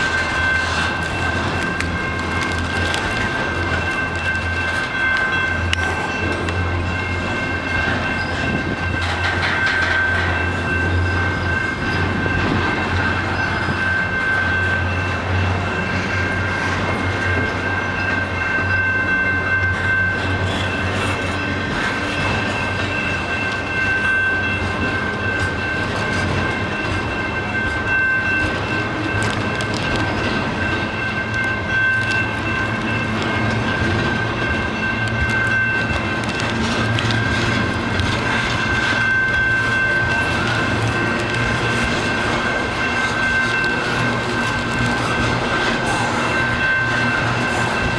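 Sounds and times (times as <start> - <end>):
train wheels clacking over rail joints: 0.0 - 19.1, 19.7 - 47.9
low train rumble: 0.0 - 47.9.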